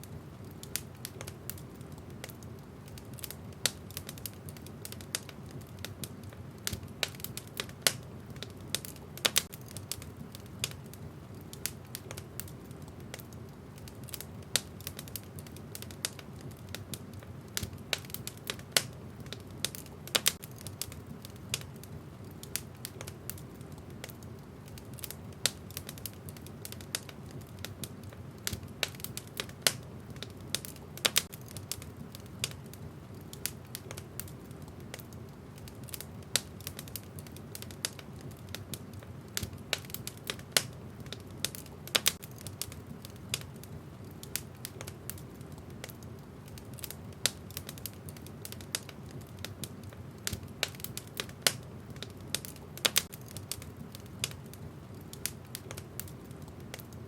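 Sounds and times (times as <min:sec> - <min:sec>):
burning logs crackling and popping: 0:00.0 - 0:57.0
fire flames rumbling: 0:00.0 - 0:57.0.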